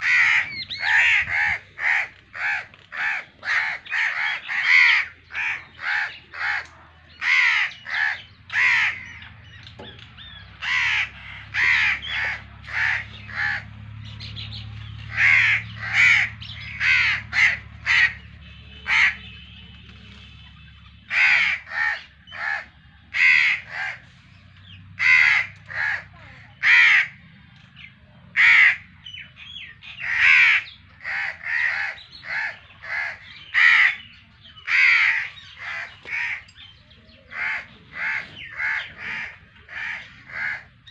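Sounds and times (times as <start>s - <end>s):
crows cawing: 0.0s - 14.4s, 15.0s - 19.5s, 21.0s - 27.2s, 28.3s - 40.9s.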